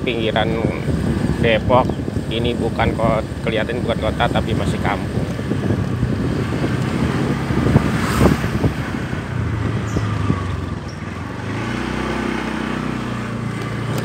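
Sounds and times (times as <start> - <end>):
wind buffeting microphone: 0.0 - 13.5
motorcycle engine running: 0.0 - 14.0.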